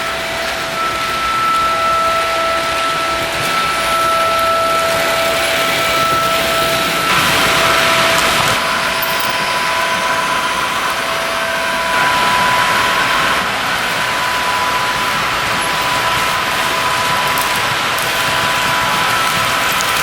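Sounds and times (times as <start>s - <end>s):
model locomotive drone: 0.0s - 20.0s
thin whine: 0.0s - 20.0s.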